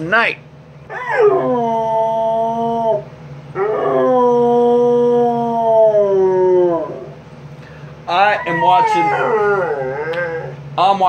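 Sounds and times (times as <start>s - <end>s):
dog howling: 0.9s - 7.2s, 8.1s - 10.6s.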